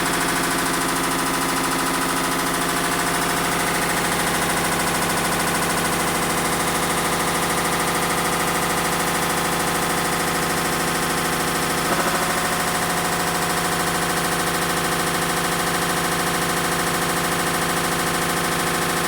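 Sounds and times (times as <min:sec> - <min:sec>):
washing machine jolt: 0:00.0 - 0:16.0
washing machine spin rattle: 0:00.0 - 0:19.0.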